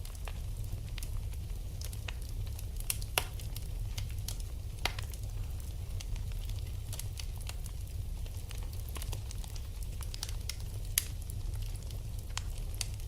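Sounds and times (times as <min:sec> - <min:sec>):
fire crackles and pops: 0:00.0 - 0:13.0
low fire rumble: 0:00.0 - 0:13.0.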